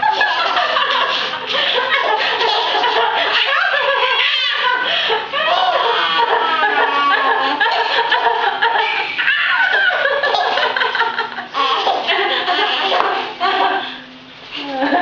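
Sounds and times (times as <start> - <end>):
baby laughing hysterically: 0.0 - 13.8.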